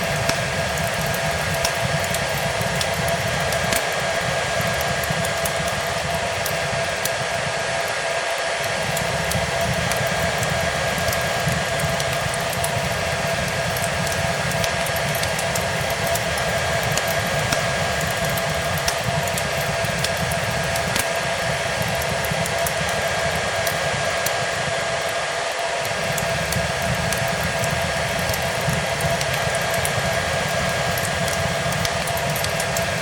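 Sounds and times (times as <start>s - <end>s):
fire crackling: 0.0s - 33.0s
hair dryer running: 0.0s - 33.0s.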